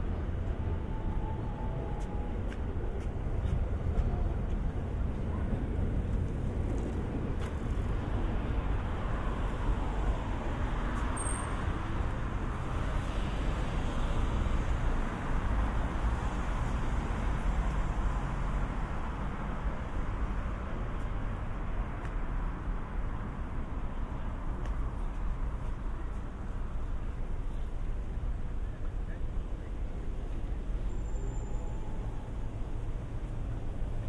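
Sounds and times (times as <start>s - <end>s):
cars passing on city street: 0.0s - 34.0s.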